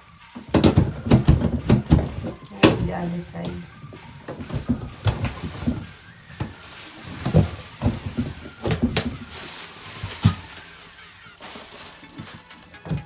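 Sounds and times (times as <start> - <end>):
cardboard and tape rustling: 0.3 - 13.0.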